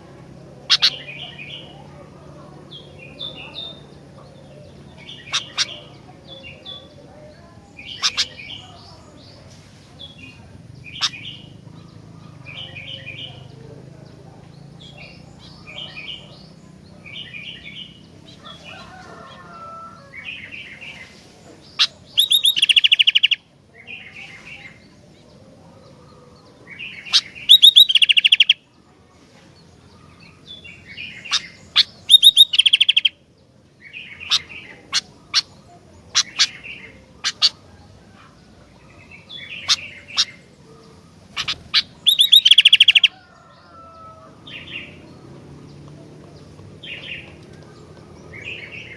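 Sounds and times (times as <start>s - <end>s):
bird rapid trilled bursts: 0.0s - 23.5s, 25.9s - 28.6s, 29.8s - 33.3s, 34.0s - 45.8s
bird chirping phrases: 0.0s - 48.9s.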